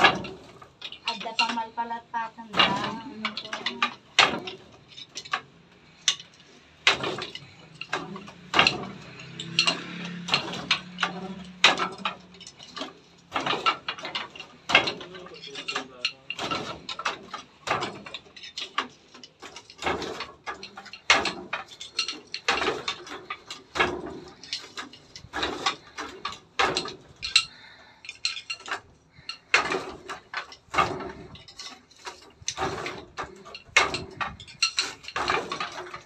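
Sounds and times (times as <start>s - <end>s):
loom beater knocking: 0.0s - 27.5s, 28.1s - 36.0s.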